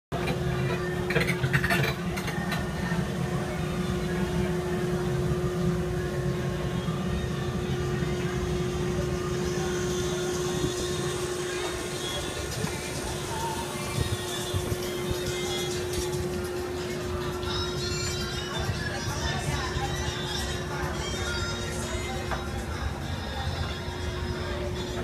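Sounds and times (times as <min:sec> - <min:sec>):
constant hum: 0:00.1 - 0:25.0.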